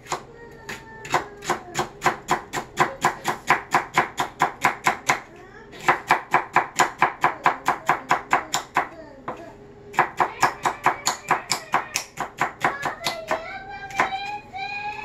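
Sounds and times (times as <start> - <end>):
knife chopping on cutting board: 0.0 - 14.3.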